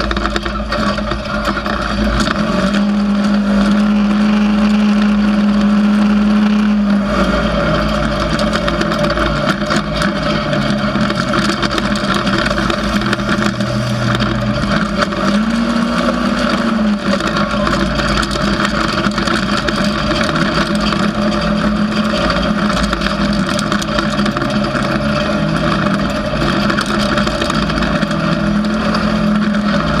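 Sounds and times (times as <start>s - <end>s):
constant rushing noise: 0.0s - 30.0s
off-road vehicle engine: 0.0s - 30.0s.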